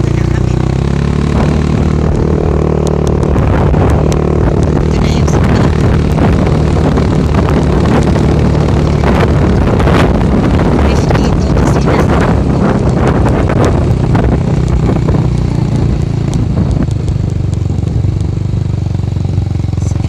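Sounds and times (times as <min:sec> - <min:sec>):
vehicle engine running under load: 0:00.0 - 0:20.0
wind buffeting microphone: 0:00.0 - 0:20.0.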